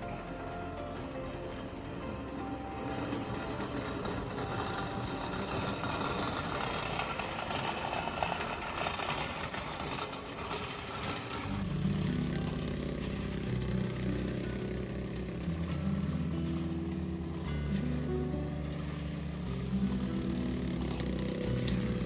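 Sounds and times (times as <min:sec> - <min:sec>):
deep steady engine note: 0:00.0 - 0:22.0
engine running: 0:00.0 - 0:22.0.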